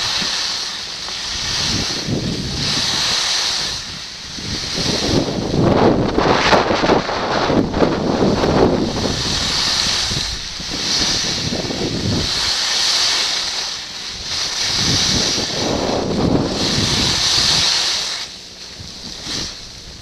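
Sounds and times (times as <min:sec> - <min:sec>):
skis carving snow hiss: 0:00.0 - 0:20.0
wind buffeting microphone: 0:00.0 - 0:20.0.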